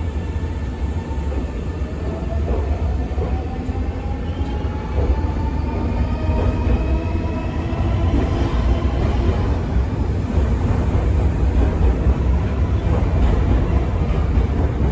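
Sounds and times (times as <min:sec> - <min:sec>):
train rumbling on tracks: 0:00.0 - 0:14.9.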